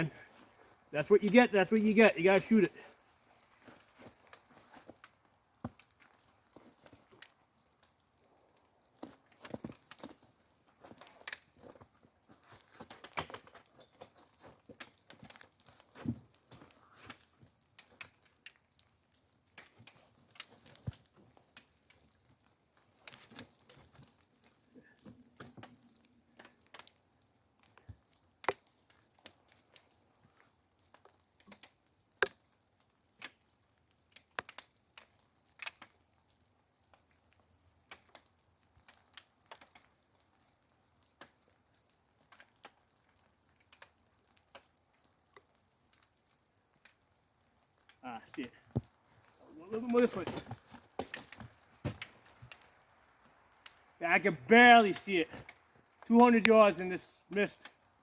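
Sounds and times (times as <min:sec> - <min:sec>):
raindrops pattering on wet gear: 0:00.0 - 0:58.0.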